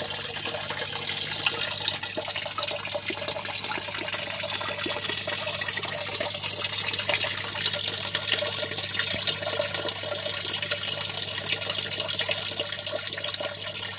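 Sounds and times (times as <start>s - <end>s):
water splashing in fish tank: 0.0s - 13.9s.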